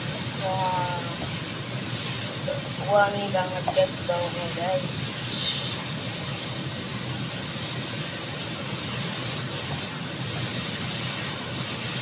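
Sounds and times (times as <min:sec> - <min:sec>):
filling sizzling in a wok: 0:00.0 - 0:12.0.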